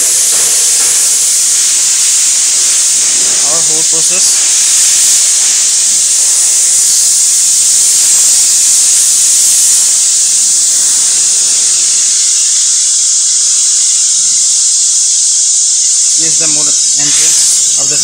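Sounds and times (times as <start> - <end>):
factory machinery hiss: 0.0 - 18.0.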